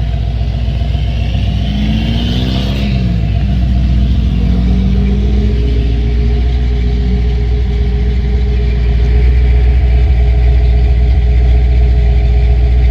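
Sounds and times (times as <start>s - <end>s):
truck engine idling: 0.0s - 12.9s.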